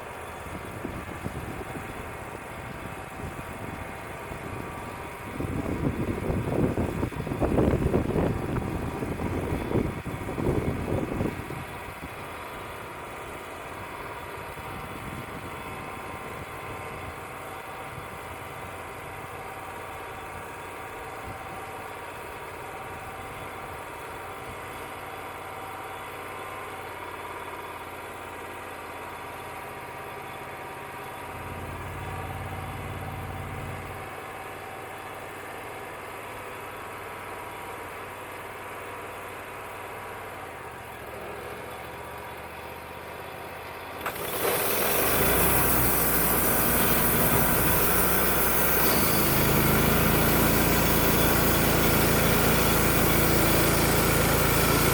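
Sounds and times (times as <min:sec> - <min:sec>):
band sawmill running: 0:00.0 - 0:54.9.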